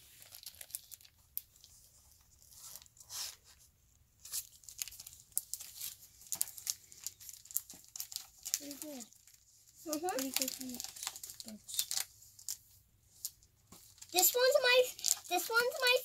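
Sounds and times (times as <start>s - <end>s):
plastic bags crinkling: 0.0s - 2.9s, 4.3s - 16.0s.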